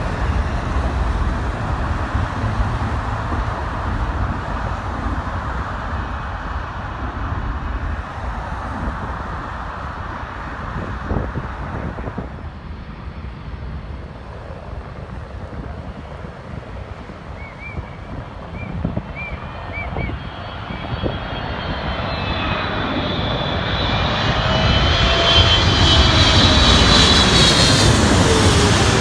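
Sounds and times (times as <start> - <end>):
jet airliner rumble: 0.0 - 29.0
road traffic passing: 0.0 - 29.0
wind on microphone: 0.0 - 29.0.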